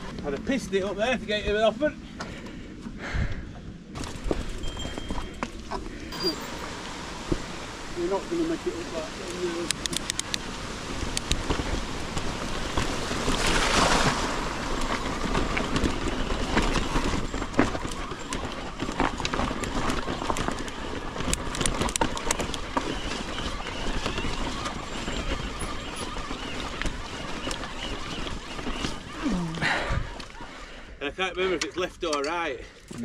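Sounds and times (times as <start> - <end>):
bike rattling and clattering: 3.9 - 33.0
tyres rumbling over stones: 4.0 - 30.4.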